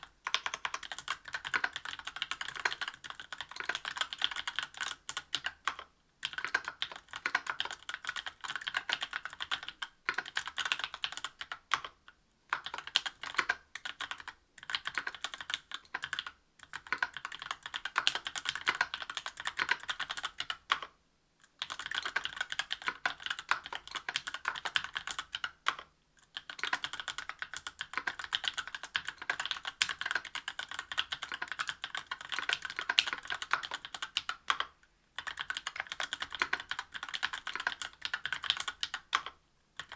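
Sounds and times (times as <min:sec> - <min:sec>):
fast typing on mechanical keyboard: 0:00.0 - 0:20.9, 0:21.5 - 0:39.9.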